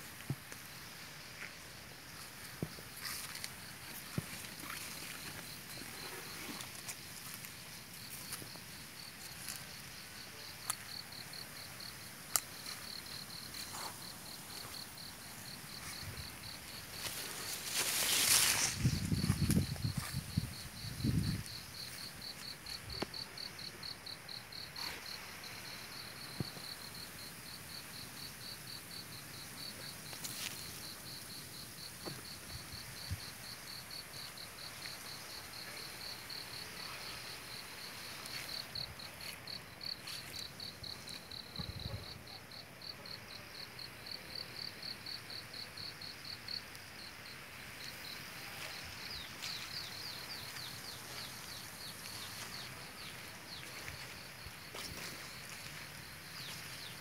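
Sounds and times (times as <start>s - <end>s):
insect chirping: 0.0s - 57.0s.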